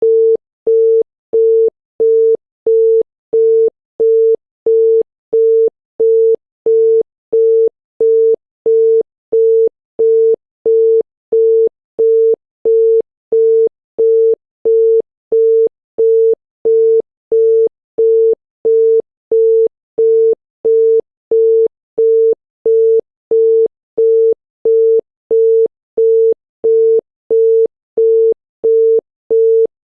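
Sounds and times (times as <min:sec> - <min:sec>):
telephone busy tone beeping: 0:00.0 - 0:29.7.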